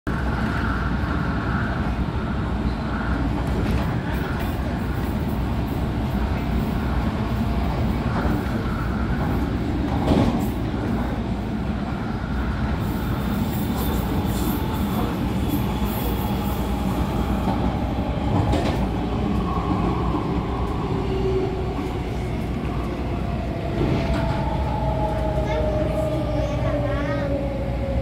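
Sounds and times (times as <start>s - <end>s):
faint train whine: 0.1s - 28.0s
train wheels and motors rumbling: 0.1s - 28.0s.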